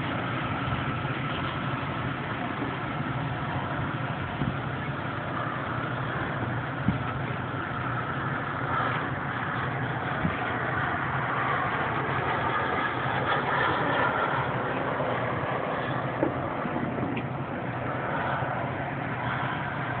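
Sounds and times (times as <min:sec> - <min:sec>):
model jet turbines roaring: 0:00.0 - 0:20.0.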